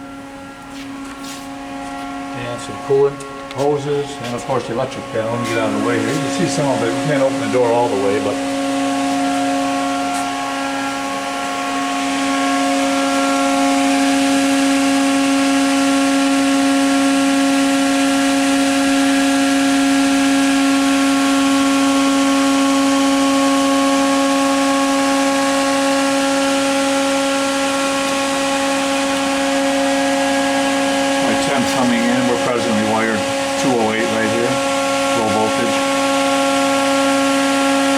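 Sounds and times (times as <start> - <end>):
machine humming with airy hiss: 0.0 - 37.9.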